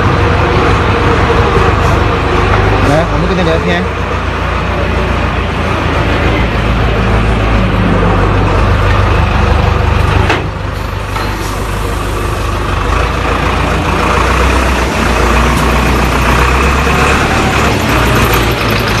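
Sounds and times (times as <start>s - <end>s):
diesel engine running loudly: 0.0s - 19.0s.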